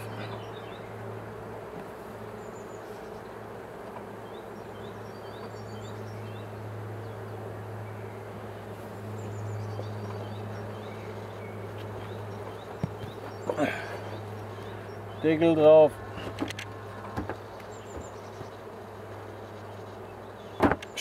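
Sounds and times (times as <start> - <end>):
bees humming: 0.0 - 21.0.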